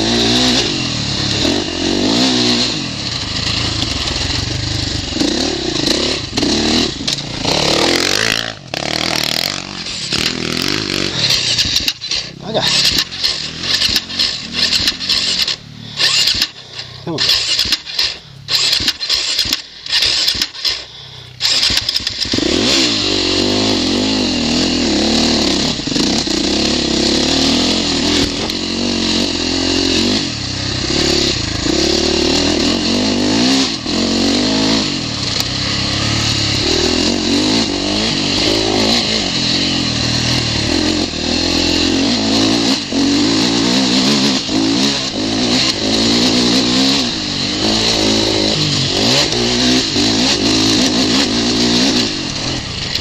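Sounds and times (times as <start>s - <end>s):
motocross engine revving: 0.0s - 53.0s.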